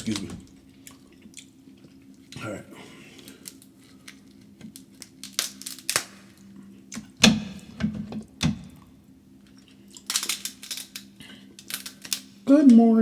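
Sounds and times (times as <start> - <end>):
close-miked eating sounds: 0.0 - 7.2, 7.9 - 13.0
steady low hum: 0.0 - 13.0.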